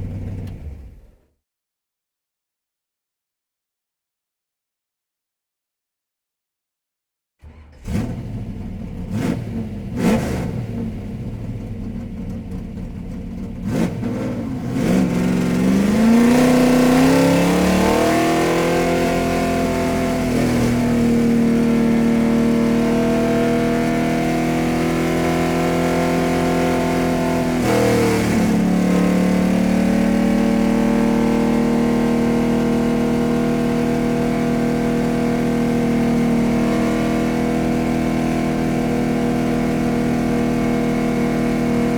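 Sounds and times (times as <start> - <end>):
car engine accelerating: 0.0 - 1.1, 7.4 - 41.9.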